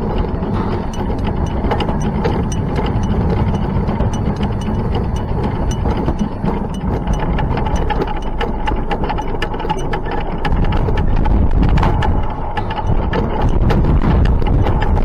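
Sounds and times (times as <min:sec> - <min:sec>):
faint steady whine: 0:00.0 - 0:15.0
steam locomotive rumbling: 0:00.0 - 0:15.0
wheels clicking over rail joints: 0:00.0 - 0:15.0.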